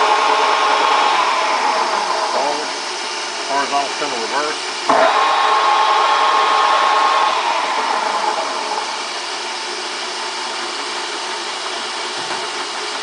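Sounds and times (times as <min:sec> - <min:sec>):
machine hum: 0:00.0 - 0:13.0
mechanical whine: 0:00.0 - 0:13.0.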